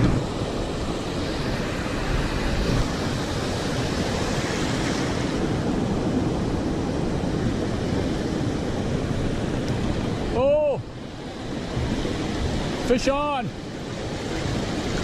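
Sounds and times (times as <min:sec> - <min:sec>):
ocean surf breaking: 0:00.0 - 0:15.0
wind rumbling on microphone: 0:00.0 - 0:15.0.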